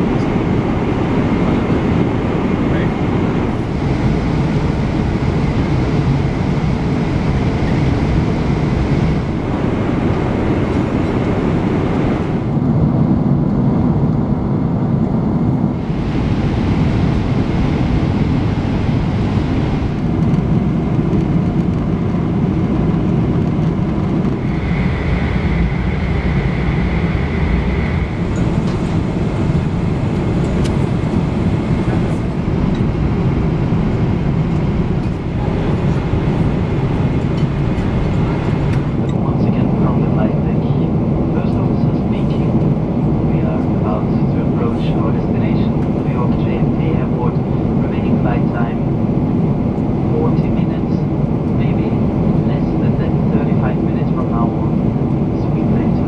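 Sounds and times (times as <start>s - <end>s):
jet cabin rumble: 0.0s - 56.0s.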